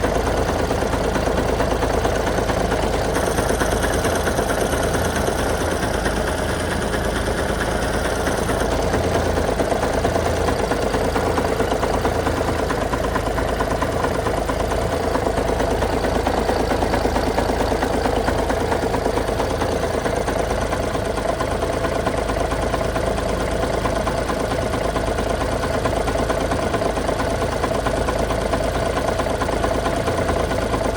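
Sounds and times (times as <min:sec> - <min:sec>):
truck diesel engine idling: 0:00.0 - 0:30.9.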